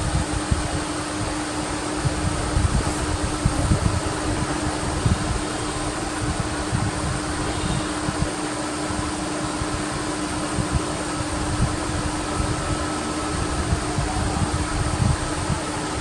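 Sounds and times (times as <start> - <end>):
low rumbling: 0.0 - 16.0
steady mechanical hum: 0.0 - 16.0.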